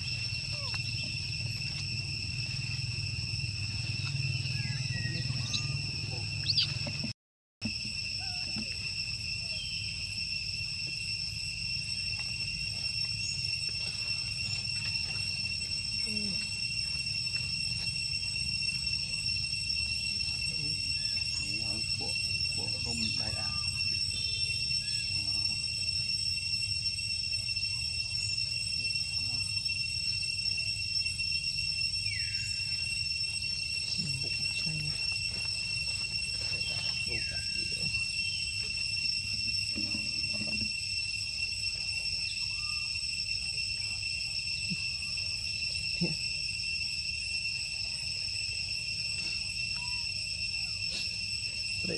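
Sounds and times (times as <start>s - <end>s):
insect drone: 0.0s - 51.9s.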